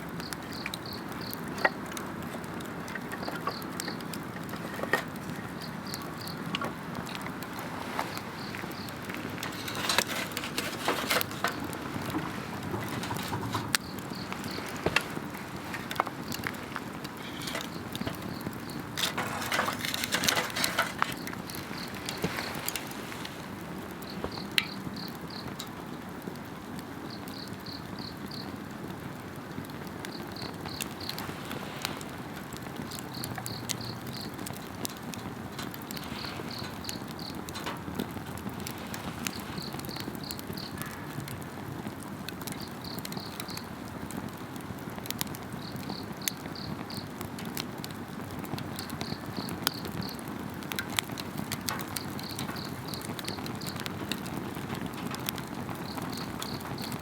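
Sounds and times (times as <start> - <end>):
campfire crackling: 0.0 - 57.0
insects chirping: 0.2 - 25.7, 27.1 - 28.6, 30.0 - 32.4, 33.0 - 41.0, 42.5 - 43.8, 45.6 - 47.1, 48.8 - 50.3, 51.8 - 54.6, 55.6 - 57.0.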